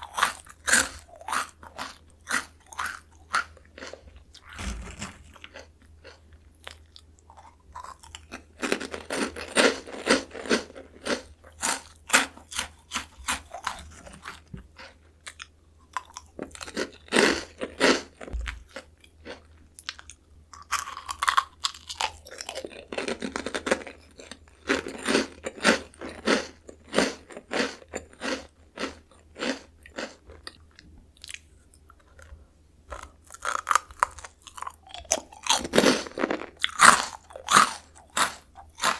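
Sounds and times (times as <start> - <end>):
crunchy crackers being chewed: 0.0 - 4.5, 5.3 - 38.9.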